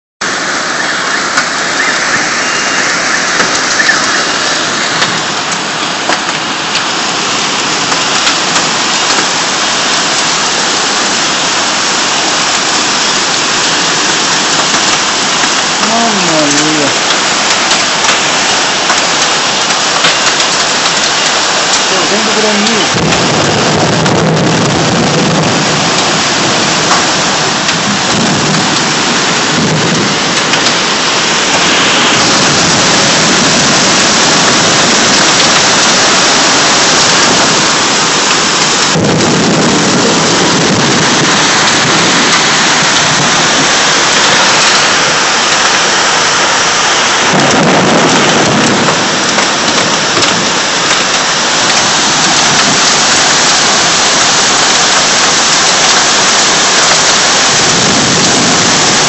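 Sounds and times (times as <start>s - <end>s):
deep rumbling: 0.2s - 59.0s
heavy rain pouring: 0.2s - 59.0s.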